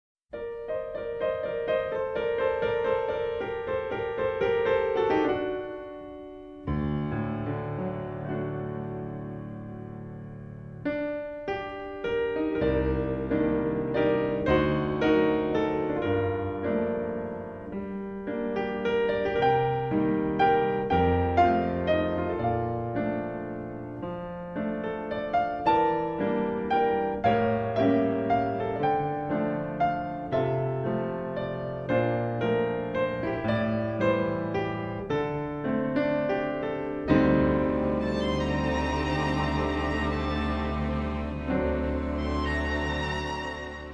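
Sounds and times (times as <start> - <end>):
gentle piano melody: 0.3 - 43.9.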